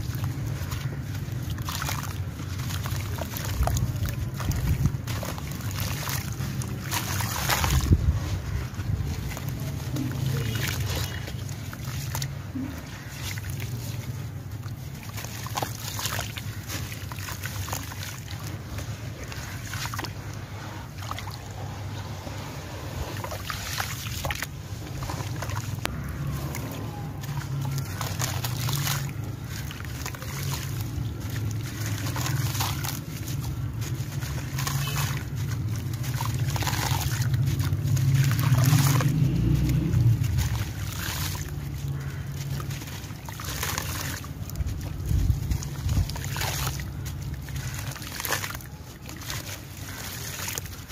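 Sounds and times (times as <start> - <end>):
gritty crunching and scraping: 0.0 - 50.9
water sloshing and dripping: 0.0 - 50.9.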